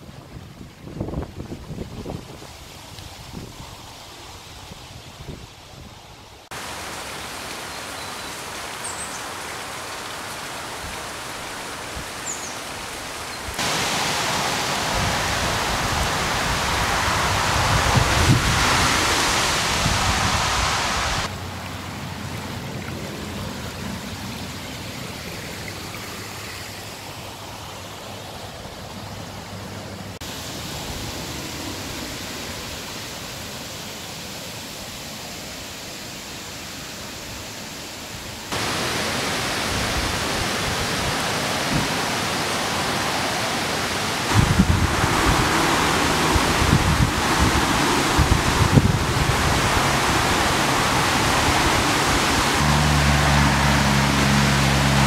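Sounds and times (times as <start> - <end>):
rain falling on water: 6.4 - 55.0.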